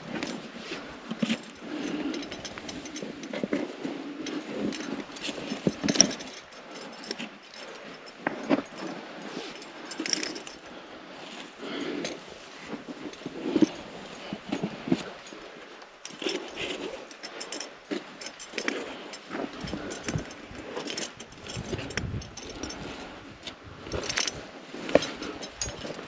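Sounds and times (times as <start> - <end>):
metal climbing gear clinking: 0.0 - 26.0.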